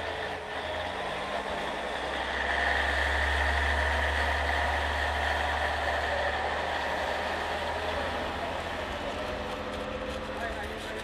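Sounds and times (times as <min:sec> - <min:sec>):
diesel railcar engines humming: 0:00.0 - 0:11.0.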